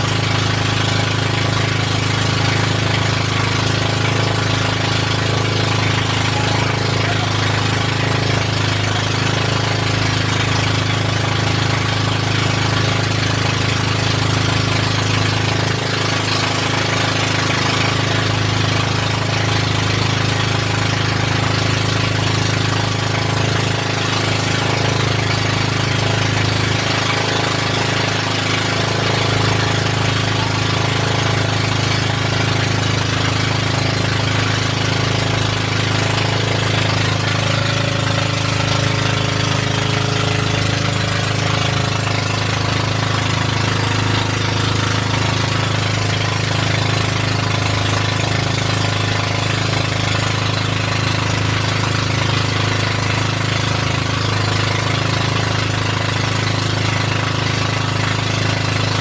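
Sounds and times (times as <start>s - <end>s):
boat engine hammering: 0.0s - 59.0s.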